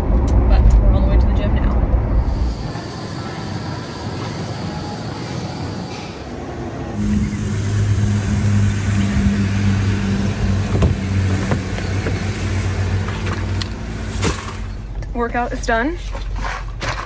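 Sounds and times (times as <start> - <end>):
vehicle engine humming: 0.0 - 16.1.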